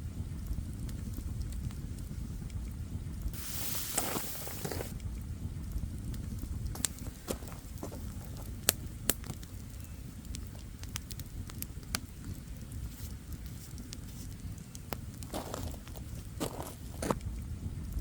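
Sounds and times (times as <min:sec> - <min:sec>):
campfire crackling: 0:00.0 - 0:18.0
low rumble of flames: 0:00.0 - 0:18.0.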